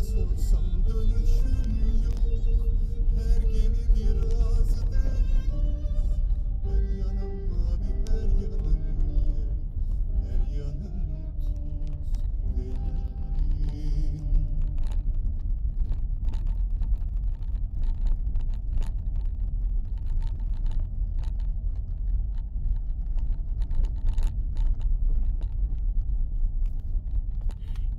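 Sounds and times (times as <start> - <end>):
car driving on rough track: 0.0 - 27.9.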